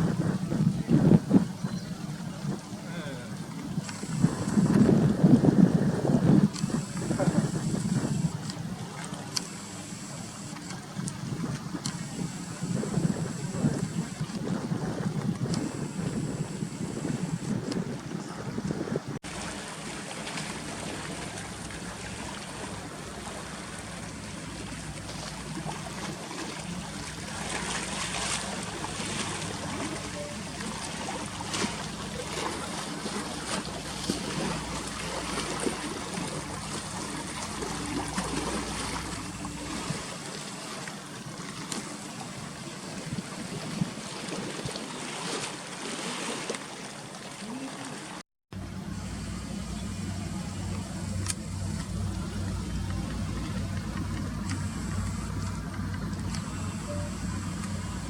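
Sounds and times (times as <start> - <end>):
low engine hum: 0.0 - 43.3, 48.5 - 58.0
water lapping against breakwater: 0.0 - 48.2, 48.8 - 58.0.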